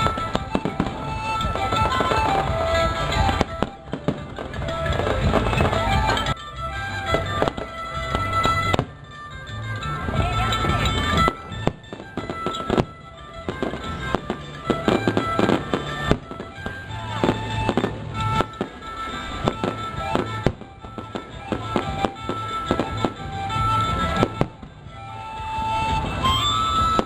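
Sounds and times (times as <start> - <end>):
firecrackers banging: 0.0 - 27.0
music: 0.0 - 27.0.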